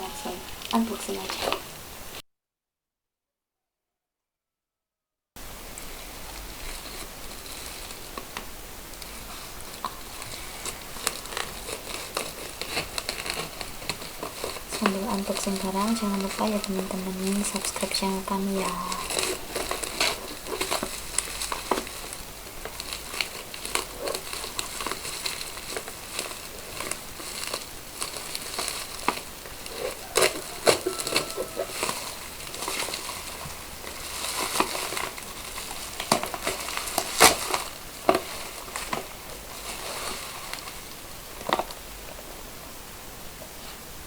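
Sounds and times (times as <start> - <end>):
packaging crinkling and rustling: 5.4 - 42.5.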